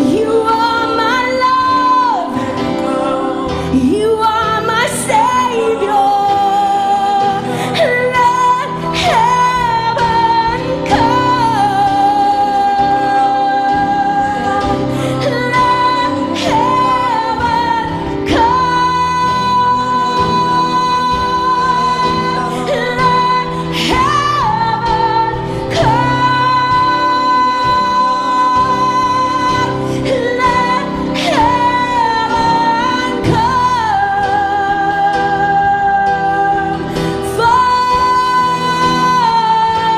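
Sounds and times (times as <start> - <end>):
person singing with vibrato: 0.0 - 39.9
worship band playing: 0.0 - 39.9.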